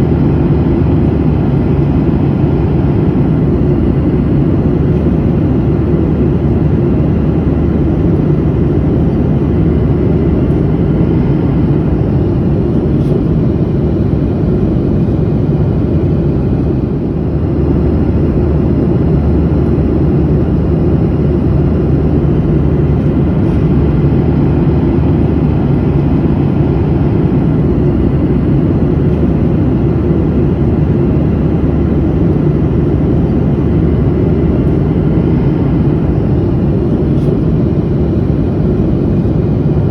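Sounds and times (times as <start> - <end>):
airliner cabin engine and airflow rush: 0.0 - 39.9.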